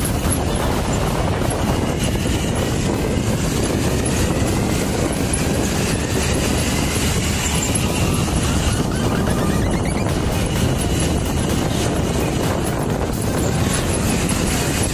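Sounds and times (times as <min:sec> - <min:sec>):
vehicle interior rumble: 0:00.0 - 0:14.9.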